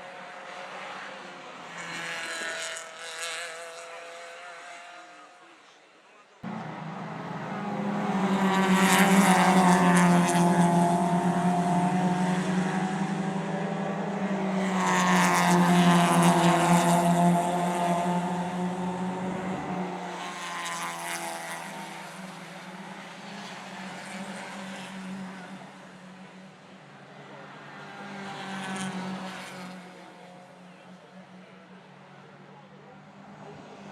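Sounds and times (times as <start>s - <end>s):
racing cars passing at speed: 0.0s - 5.7s, 6.4s - 33.9s.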